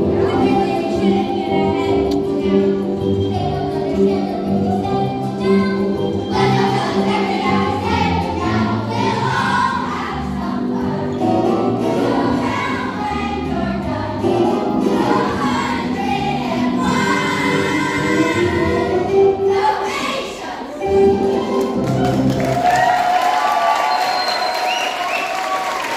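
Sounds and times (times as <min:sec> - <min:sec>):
instrumental accompaniment: 0:00.0 - 0:20.1, 0:20.8 - 0:22.7
children's chorus singing: 0:00.0 - 0:21.7.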